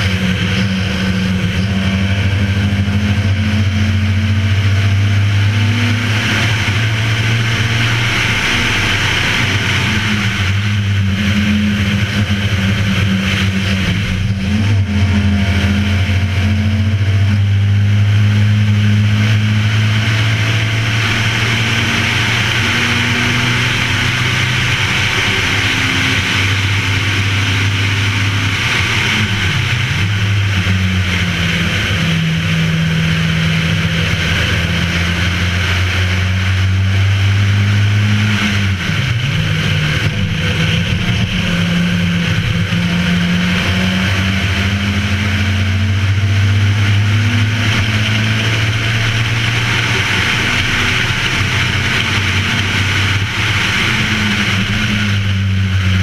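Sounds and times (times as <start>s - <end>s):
race car engine running hard: 0.0s - 56.0s
wind and road noise: 0.0s - 56.0s.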